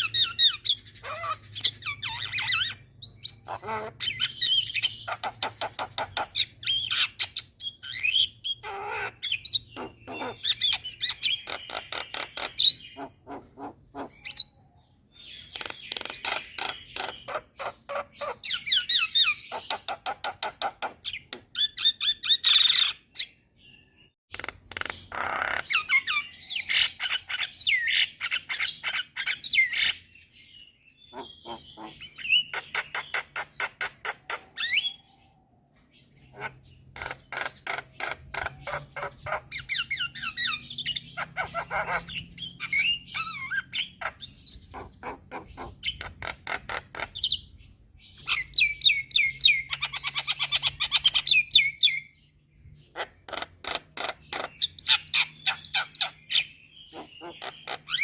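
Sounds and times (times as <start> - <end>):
starlings chattering and singing: 0.0 - 58.0.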